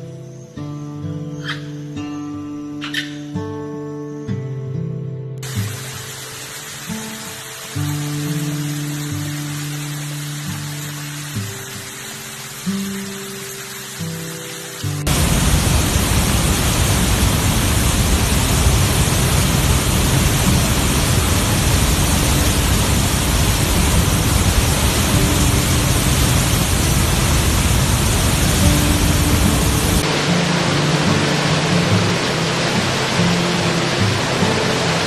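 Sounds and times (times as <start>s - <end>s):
soft music: 0.0s - 15.1s, 20.1s - 35.0s
rushing water: 5.4s - 35.0s.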